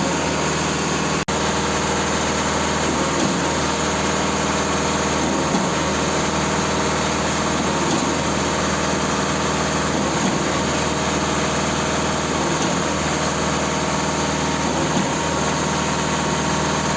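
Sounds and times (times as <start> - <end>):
pump engine running steadily: 0.0 - 16.9.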